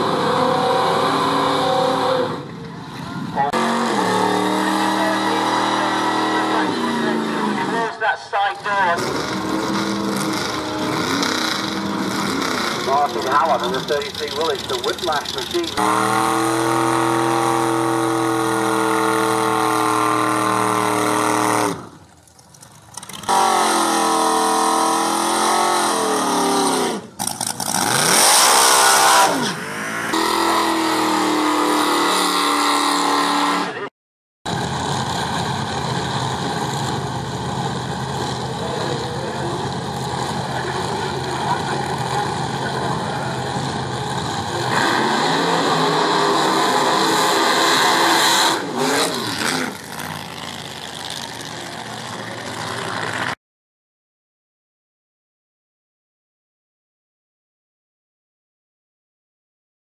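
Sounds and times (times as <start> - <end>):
drag-racing car burnouts: 0.0 - 2.5, 3.3 - 22.1, 23.0 - 33.9, 34.5 - 53.4
engines revving up and down: 0.0 - 22.0, 22.9 - 33.9, 34.5 - 53.4.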